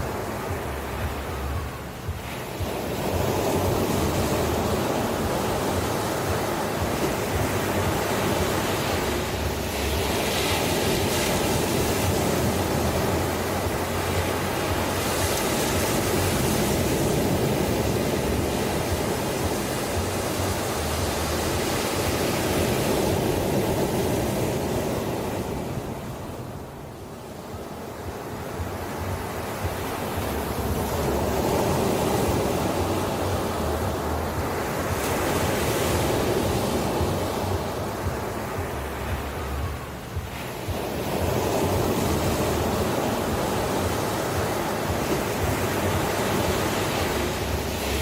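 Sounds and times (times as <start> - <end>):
ocean surf washing: 0.0 - 48.0.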